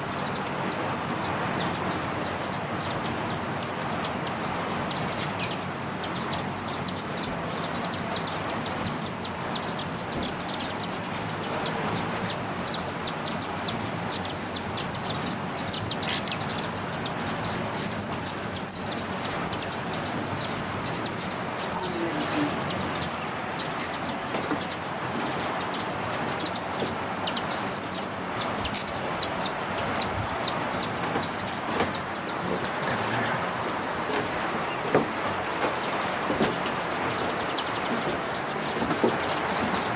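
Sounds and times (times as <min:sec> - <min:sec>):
hummingbird wings buzzing: 0:01.6 - 0:39.9.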